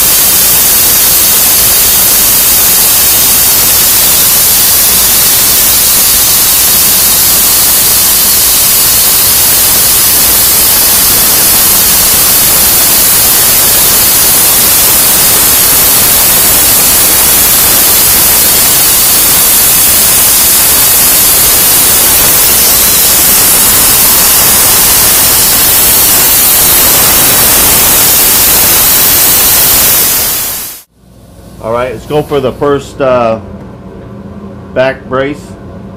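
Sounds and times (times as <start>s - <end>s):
plasma cutter torch hissing: 0.0s - 30.9s.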